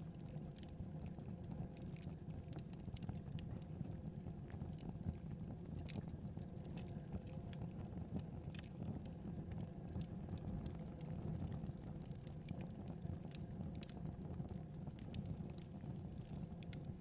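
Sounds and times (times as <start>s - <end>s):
wood fire snaps and pops: 0.0s - 3.7s, 4.5s - 17.0s
low rumble of burning: 0.0s - 17.0s.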